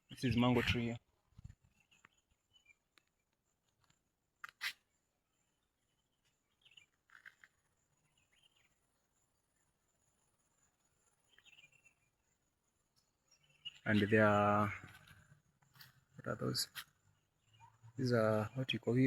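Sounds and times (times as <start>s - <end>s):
faint bird chirps: 0.0s - 3.7s, 4.4s - 19.0s.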